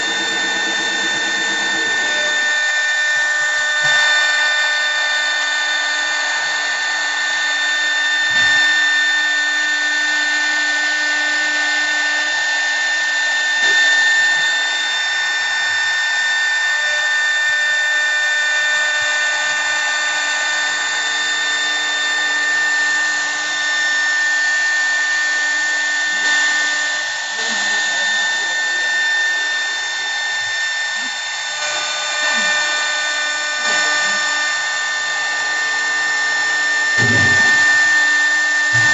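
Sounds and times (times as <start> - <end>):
wood lathe motor whine: 0.0 - 38.9.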